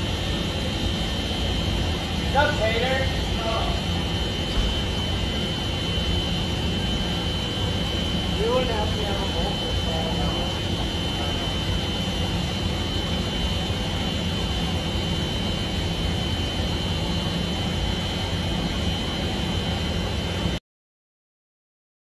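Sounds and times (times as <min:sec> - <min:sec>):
mechanical drone: 0:00.0 - 0:20.6.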